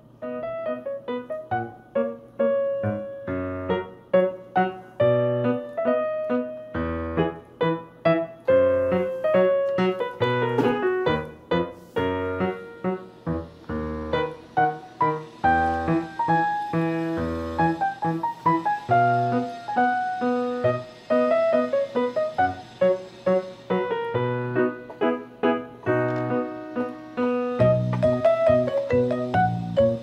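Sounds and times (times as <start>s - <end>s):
keyboard melody: 0.0s - 30.0s.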